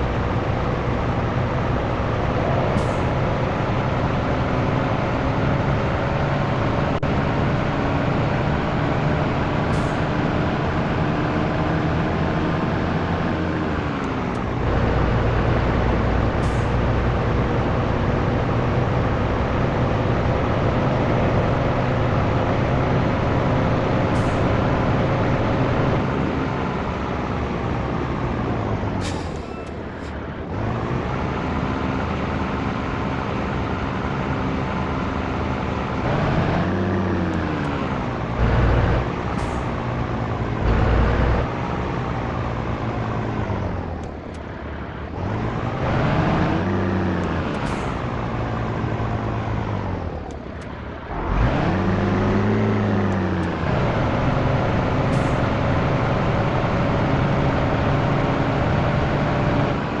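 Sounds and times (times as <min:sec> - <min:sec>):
diesel truck engine pulling: 0:00.0 - 1:00.0.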